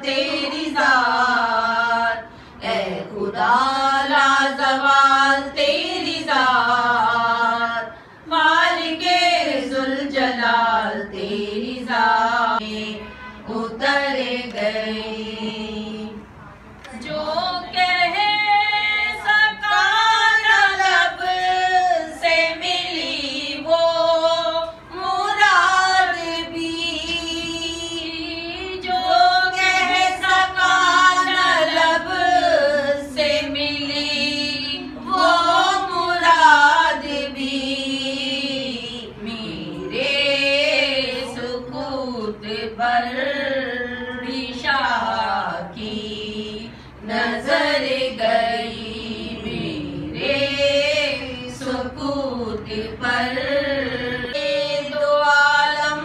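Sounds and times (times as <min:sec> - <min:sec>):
woman singing unaccompanied: 0:00.0 - 0:56.0.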